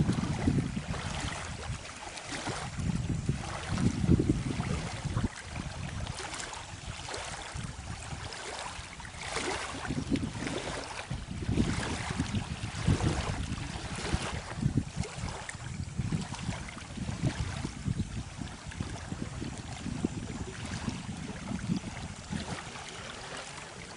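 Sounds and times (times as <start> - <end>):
lake waves lapping on shore: 0.0 - 23.9.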